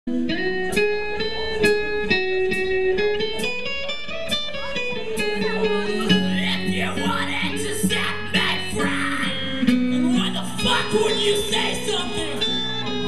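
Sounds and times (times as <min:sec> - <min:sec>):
electric guitar melody: 0:00.1 - 0:13.0.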